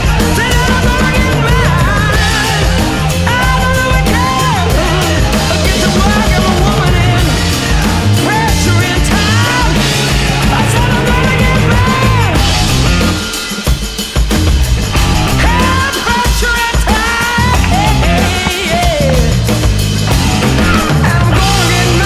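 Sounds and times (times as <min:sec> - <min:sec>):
person singing: 0:00.0 - 0:13.6, 0:15.0 - 0:19.7, 0:20.4 - 0:22.0
rock music: 0:00.0 - 0:22.0.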